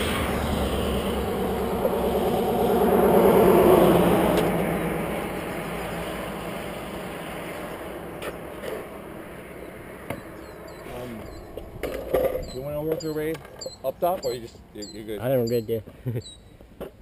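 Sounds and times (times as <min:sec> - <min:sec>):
skateboard wheels rolling on asphalt: 0:00.0 - 0:13.7.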